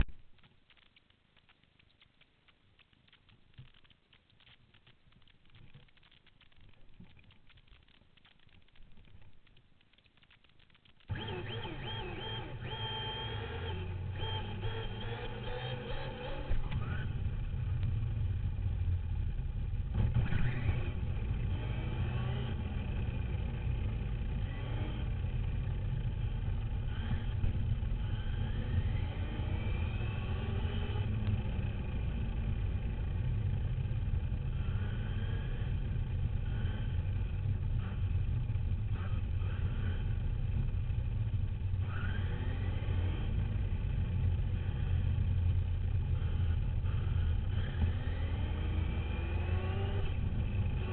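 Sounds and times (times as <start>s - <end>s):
rc dirt bike motor: 2.8s - 50.9s.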